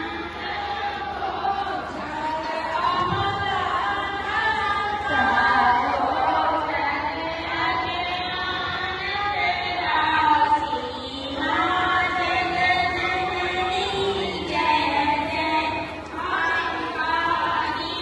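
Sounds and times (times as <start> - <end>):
woman singing devotional song: 0.0 - 18.0.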